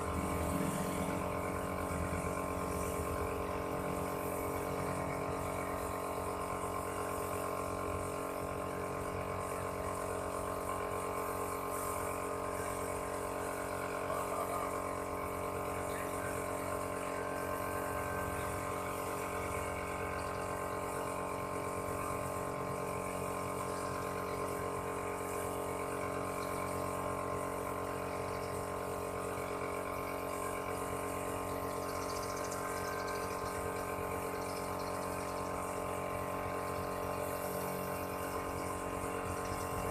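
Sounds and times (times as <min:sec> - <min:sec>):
air compressor humming: 0:00.0 - 0:39.9
spray gun air hiss: 0:00.0 - 0:39.9.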